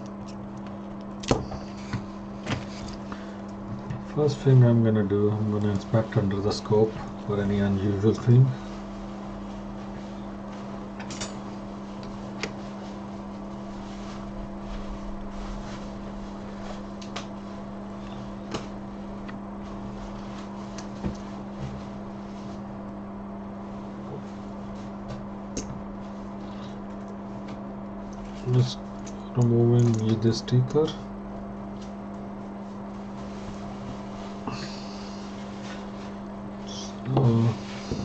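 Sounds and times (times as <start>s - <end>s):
equipment humming: 0.0s - 38.0s.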